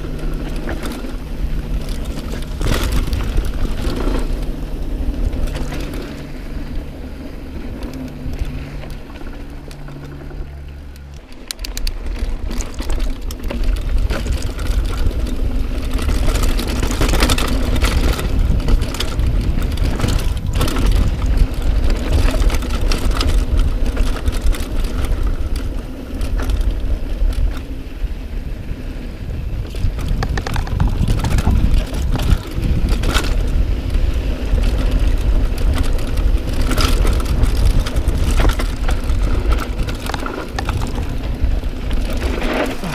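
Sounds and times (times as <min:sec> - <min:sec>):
bike rattling over rocks: 0:00.0 - 0:42.9
tyres on dirt: 0:00.0 - 0:42.9
wind buffeting microphone: 0:00.0 - 0:42.9.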